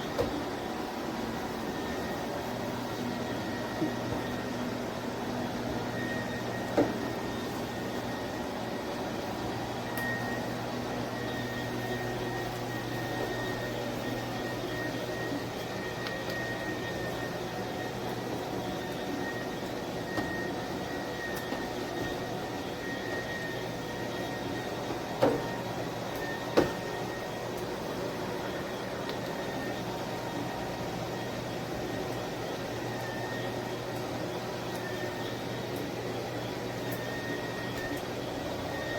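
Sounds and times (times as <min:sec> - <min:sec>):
electric mop motor hum: 0:00.0 - 0:38.9.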